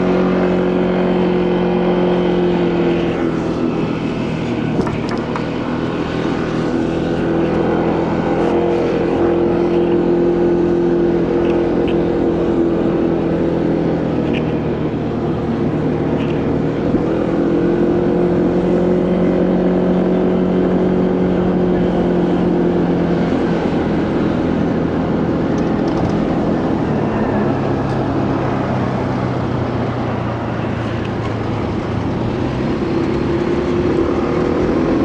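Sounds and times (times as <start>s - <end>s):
motorcycle engine cruising: 0.0s - 35.0s
wind and road noise: 0.0s - 35.0s.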